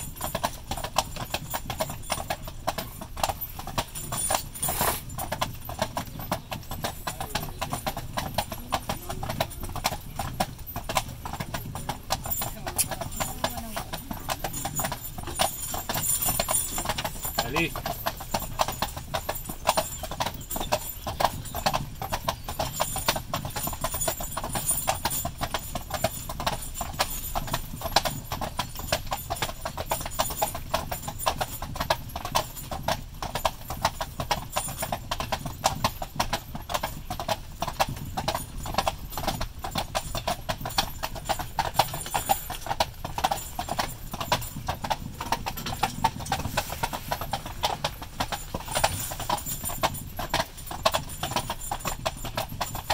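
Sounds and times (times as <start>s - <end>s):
horse hooves clip-clopping on pavement: 0.0s - 52.9s.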